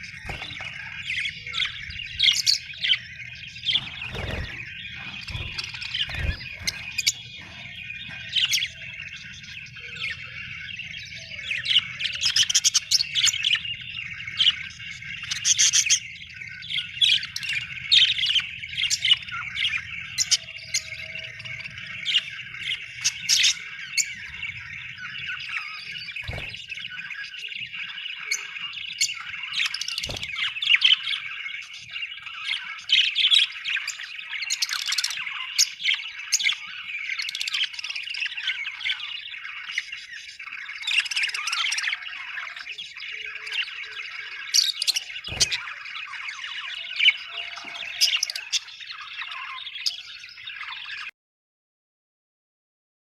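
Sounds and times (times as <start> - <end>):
budgerigars chattering: 0.0 - 51.1.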